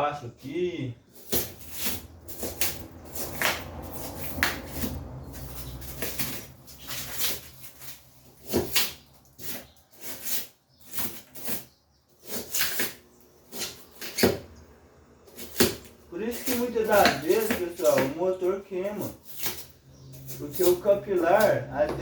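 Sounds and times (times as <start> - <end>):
knocks scrapes and rustles: 0.3 - 14.6, 15.2 - 22.0.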